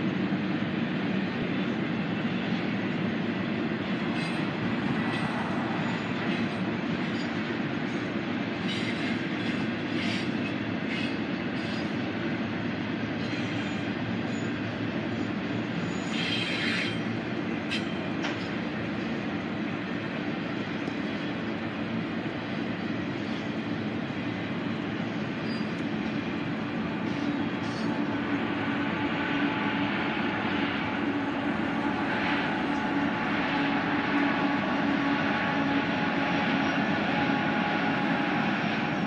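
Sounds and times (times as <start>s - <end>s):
railroad cars rumbling: 0.0s - 39.0s.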